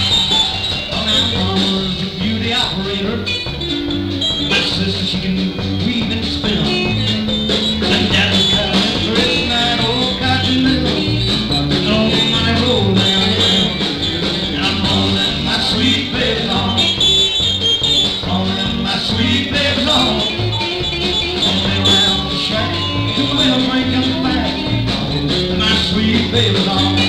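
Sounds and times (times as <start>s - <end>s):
live country band playing: 0.0s - 27.0s.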